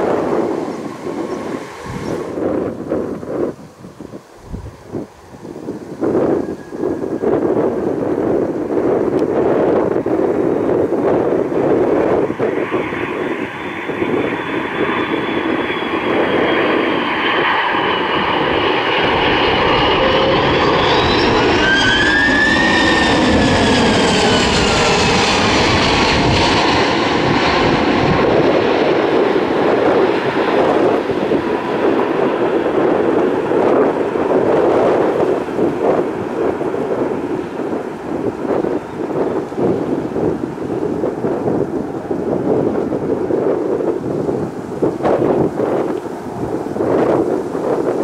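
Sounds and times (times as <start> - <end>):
jet airliner passing by: 0.0 - 48.0.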